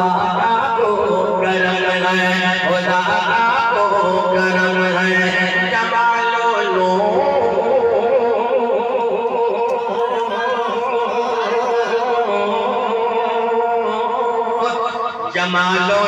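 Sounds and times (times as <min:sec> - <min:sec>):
man singing over loudspeaker: 0:00.0 - 0:16.0.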